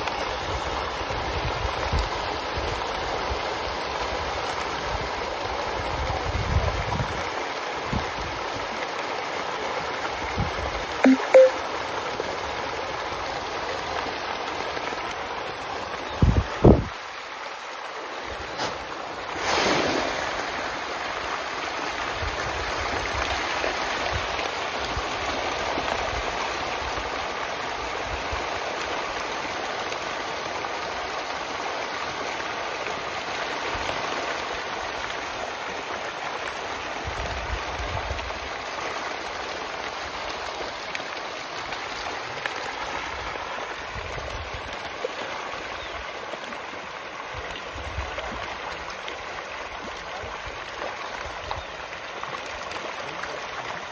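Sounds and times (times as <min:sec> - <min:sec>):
fish splashing in a pond: 0:00.0 - 0:06.3, 0:07.1 - 0:53.9.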